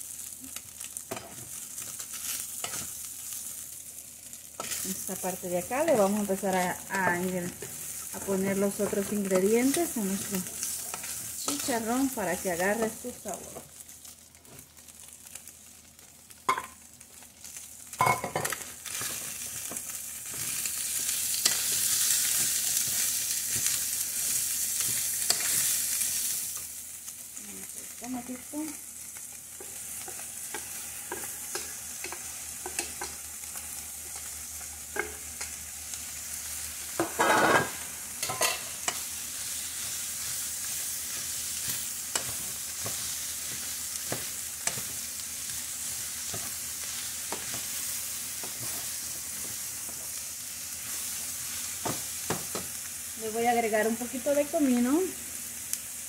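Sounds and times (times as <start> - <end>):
food sizzling in a pot: 0.0 - 56.0.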